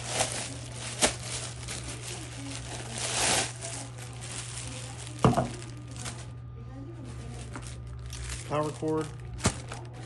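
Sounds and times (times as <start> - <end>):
packing material rustling: 0.0 - 6.3, 7.0 - 10.0.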